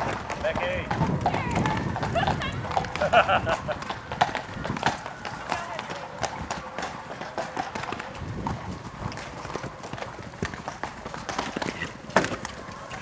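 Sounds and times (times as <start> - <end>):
horses galloping on grass: 0.0 - 13.0.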